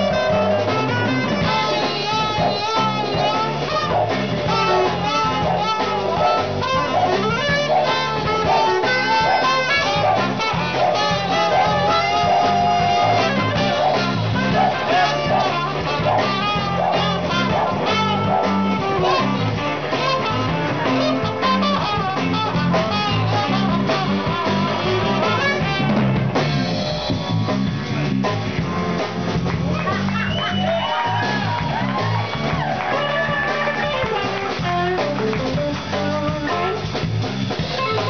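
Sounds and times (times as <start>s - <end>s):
trumpet solo: 0.0s - 26.3s, 30.5s - 37.0s
live band playing: 0.0s - 38.0s.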